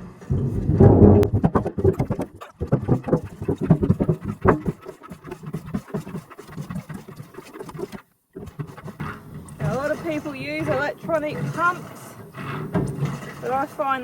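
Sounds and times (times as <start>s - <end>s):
hand drum pump strokes: 0.3s - 14.0s.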